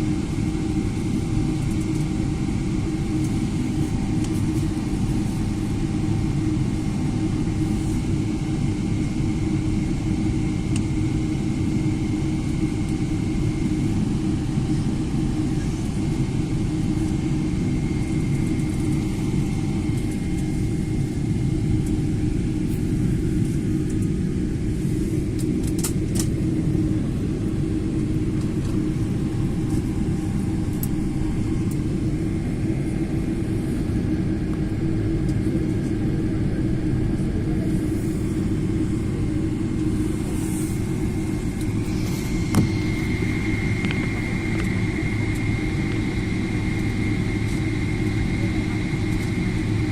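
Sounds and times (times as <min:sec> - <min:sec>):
airliner rumbling on ground: 0:00.0 - 0:49.9
faint steady whine: 0:00.0 - 0:49.9.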